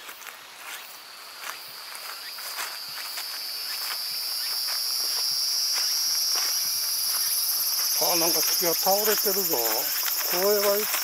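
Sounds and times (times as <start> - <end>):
footsteps on a trail: 0.0 - 11.0
insect buzzing: 0.0 - 11.0.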